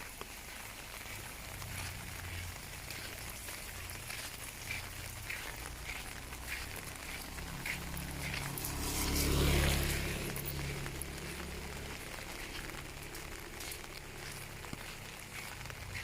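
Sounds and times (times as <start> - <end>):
rain hissing and pattering: 0.0 - 16.0
vehicle engine passing by: 0.6 - 16.0.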